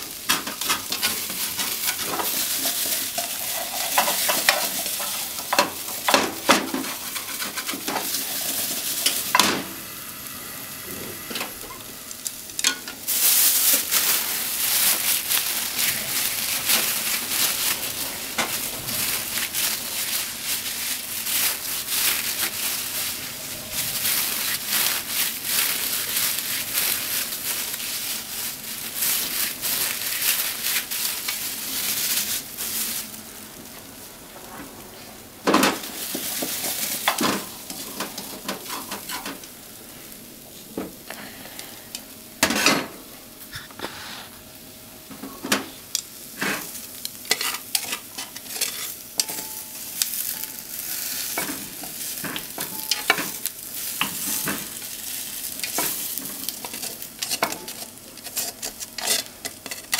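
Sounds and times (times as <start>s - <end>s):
potatoes sizzling in a frying pan: 0.0s - 59.9s.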